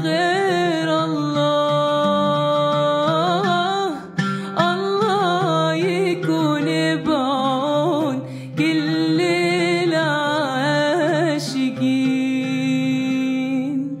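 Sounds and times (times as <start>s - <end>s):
oud playing: 0.0s - 14.0s
woman singing wordless melisma: 0.0s - 14.0s.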